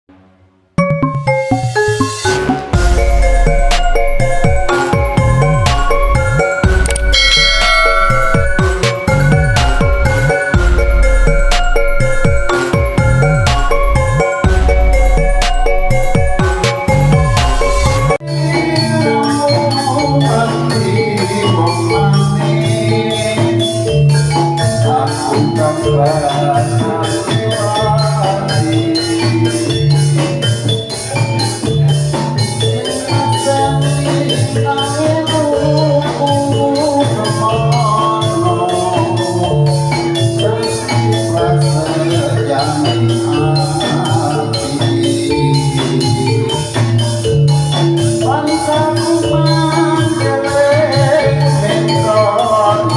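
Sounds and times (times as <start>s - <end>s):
music with heavy bass line: 0.8s - 52.9s.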